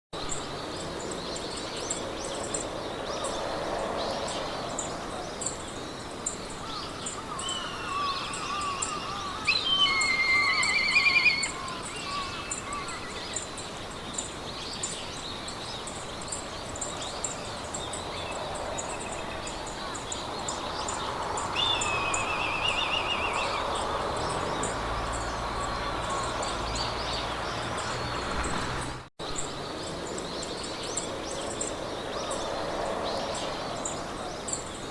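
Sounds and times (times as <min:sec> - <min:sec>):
wind through grass: 0:00.1 - 0:34.9
songbirds singing trills: 0:00.2 - 0:34.9.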